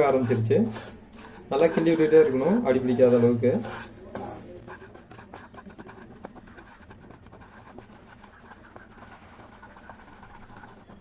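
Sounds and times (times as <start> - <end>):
spatula scraping sugar in pan: 0.0 - 11.0.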